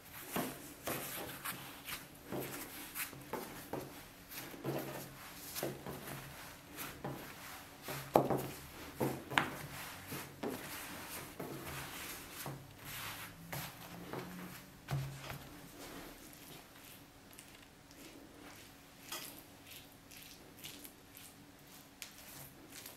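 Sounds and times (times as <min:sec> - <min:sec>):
hands rubbing dough: 0:00.0 - 0:22.9.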